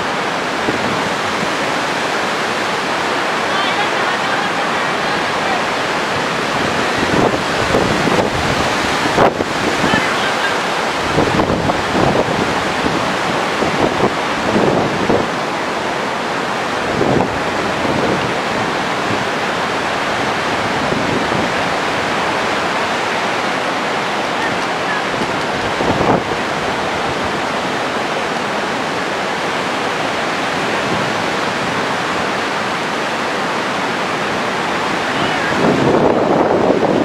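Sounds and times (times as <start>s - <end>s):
heavy surf breaking: 0.0s - 37.0s
wind buffeting microphone: 0.0s - 37.0s.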